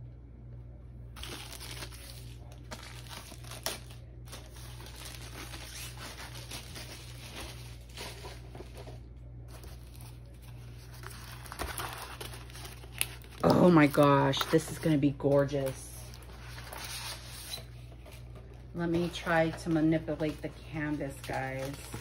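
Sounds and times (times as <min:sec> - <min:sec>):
plastic wrapping crinkling and tearing: 0:01.2 - 0:22.0.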